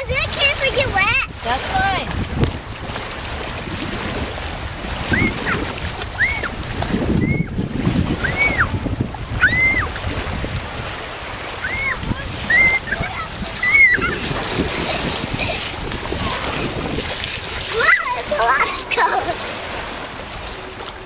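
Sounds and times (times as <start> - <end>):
small waves lapping: 0.0 - 21.0
wind buffeting microphone: 0.0 - 21.0
child splashing through water: 1.6 - 20.3.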